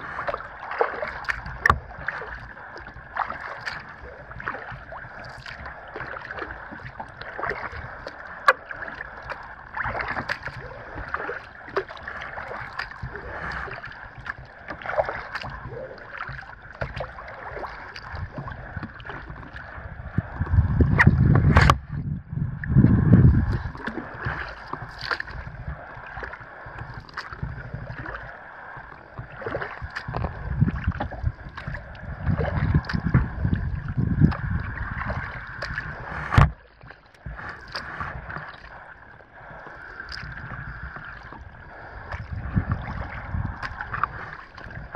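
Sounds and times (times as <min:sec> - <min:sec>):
paddle splashes and drips: 0:00.0 - 0:44.9
water lapping against hull: 0:00.0 - 0:44.9.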